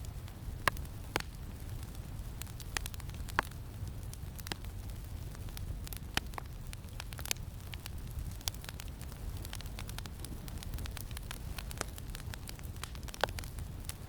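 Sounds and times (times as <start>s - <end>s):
campfire crackling: 0.0s - 14.0s
low wind rumble: 0.0s - 14.0s.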